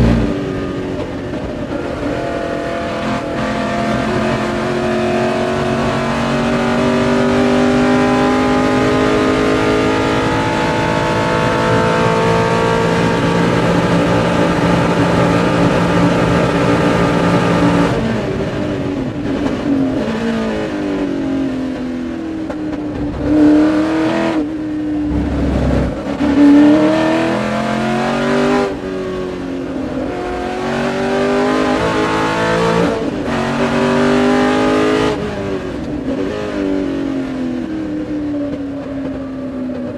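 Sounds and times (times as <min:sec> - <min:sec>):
racing car engine revving: 0:00.0 - 0:18.6, 0:22.4 - 0:37.7.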